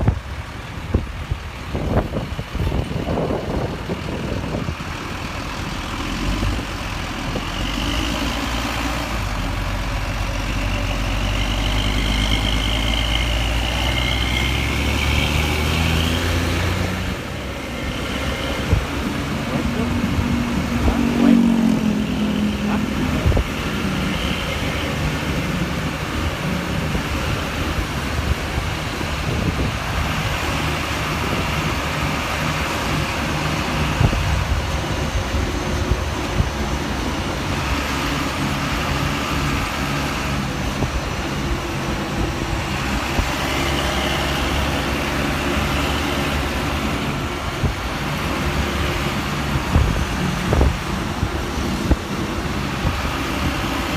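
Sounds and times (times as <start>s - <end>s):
road traffic: 0.0s - 53.9s.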